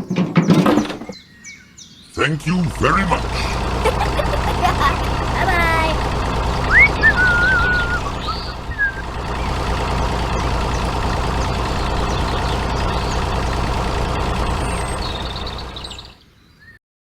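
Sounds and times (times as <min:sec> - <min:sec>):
vehicle engine humming: 0:02.2 - 0:16.2.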